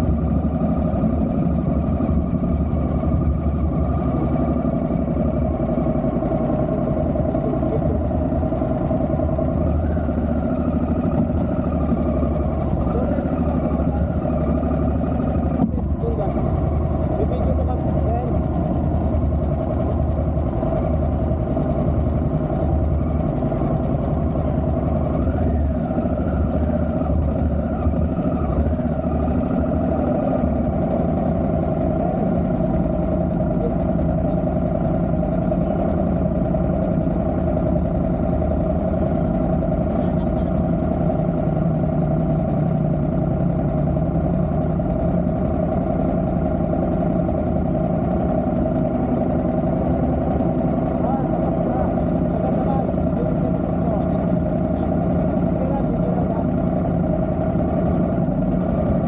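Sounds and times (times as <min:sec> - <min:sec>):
motorcycle engine and road noise: 0:00.0 - 0:59.0.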